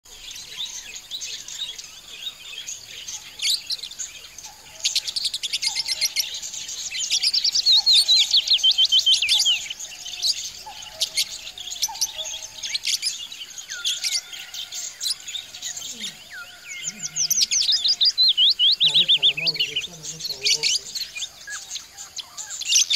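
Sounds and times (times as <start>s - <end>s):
budgerigars chirping: 0.2s - 22.9s.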